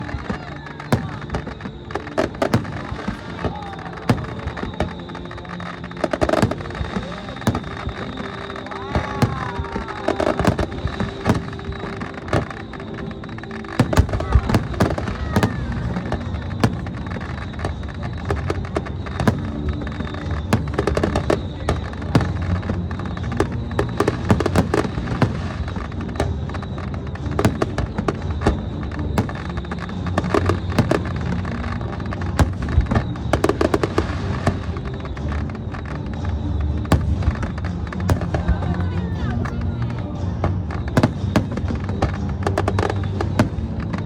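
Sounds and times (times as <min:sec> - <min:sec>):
fireworks bursting: 0:00.0 - 0:44.0.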